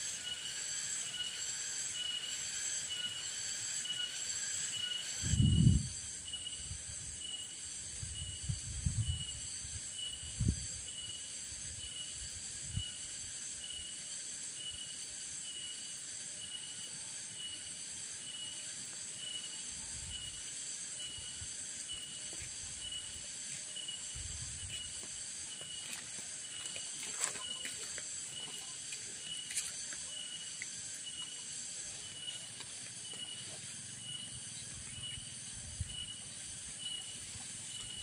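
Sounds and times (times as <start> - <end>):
insect chorus hiss: 0.0 - 38.0.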